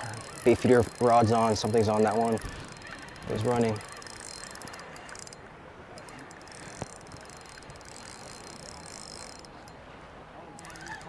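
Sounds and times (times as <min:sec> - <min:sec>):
fishing reel ticking: 0:00.0 - 0:09.8, 0:10.5 - 0:11.0.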